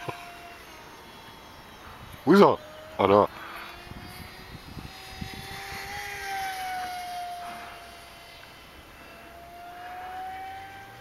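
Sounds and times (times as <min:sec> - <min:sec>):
electric motor and propeller whining: 0:00.0 - 0:11.0.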